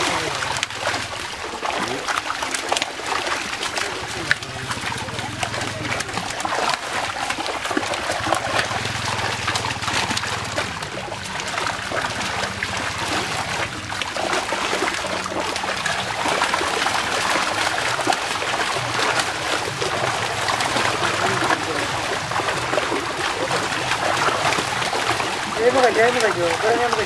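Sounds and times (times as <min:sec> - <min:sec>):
fish splashing at water surface: 0:00.0 - 0:27.0.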